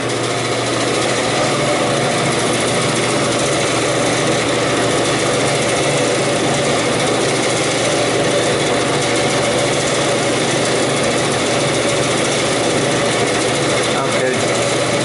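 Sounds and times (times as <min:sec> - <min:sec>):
cooler fans whirring: 0:00.0 - 0:15.0.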